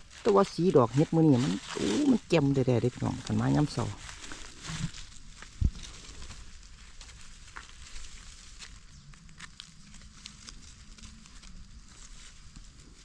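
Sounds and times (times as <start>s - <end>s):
leaf litter crackling and rustling: 0.0s - 13.0s
soft low rumble: 0.9s - 13.0s.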